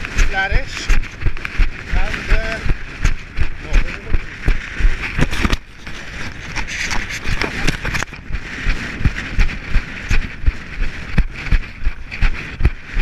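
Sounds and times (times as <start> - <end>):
runner's footsteps on stony path: 0.0 - 13.0.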